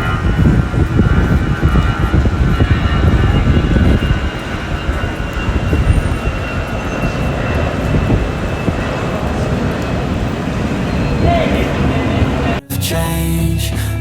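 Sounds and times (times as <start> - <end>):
jet engine rumble: 0.0 - 12.6
faint high whine: 0.0 - 13.1.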